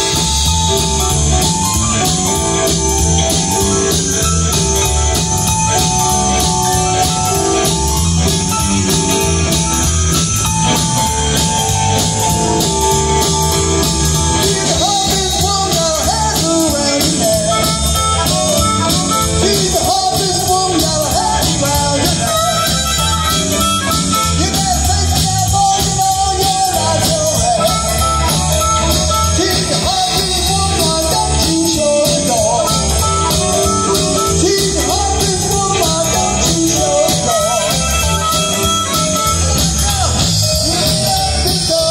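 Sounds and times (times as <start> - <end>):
harmonica lead line: 0.0 - 41.9
live blues band playing: 0.0 - 41.9.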